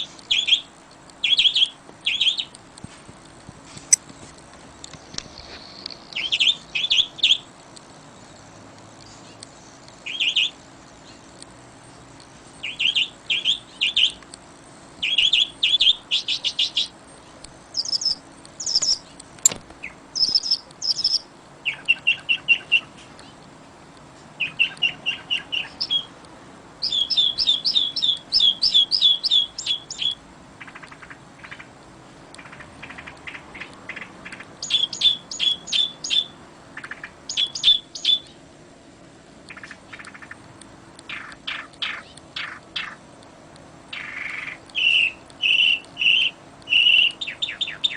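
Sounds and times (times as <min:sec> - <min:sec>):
faint steady hiss: 0:00.0 - 0:47.9
songbirds chirping: 0:00.0 - 0:47.9.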